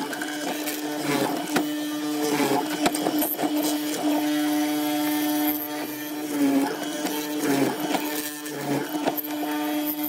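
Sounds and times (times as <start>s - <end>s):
chisel boring into wood: 0.0s - 10.0s
mortiser motor hum: 0.0s - 10.0s.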